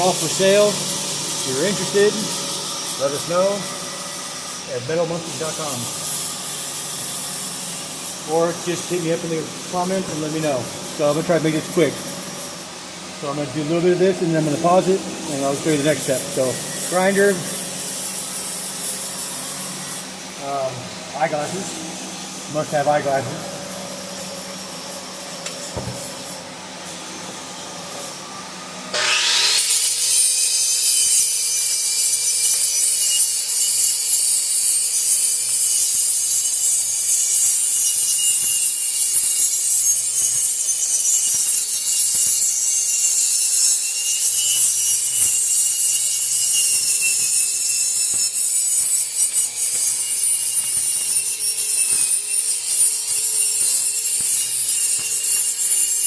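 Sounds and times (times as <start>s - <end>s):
angle grinder grinding metal: 0.0s - 28.2s, 28.9s - 56.0s.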